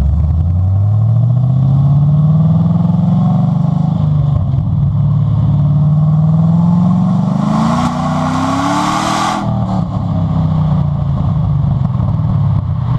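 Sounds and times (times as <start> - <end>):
car exhaust idling and revving: 0.0 - 12.9.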